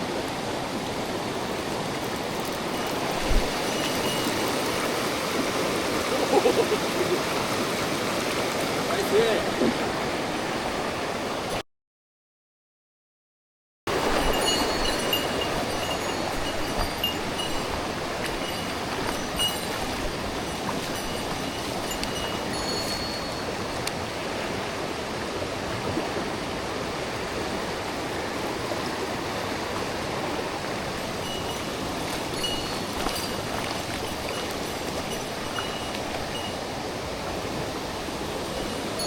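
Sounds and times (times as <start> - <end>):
water rushing over rocks: 0.0 - 11.6, 13.9 - 39.0.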